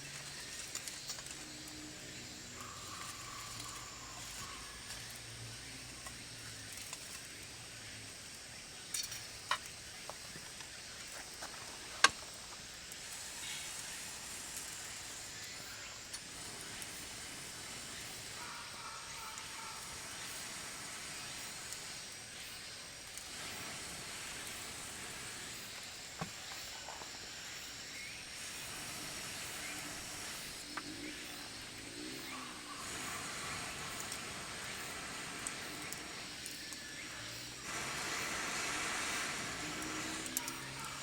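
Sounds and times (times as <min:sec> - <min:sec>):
campfire hissing and popping: 0:00.0 - 0:41.0.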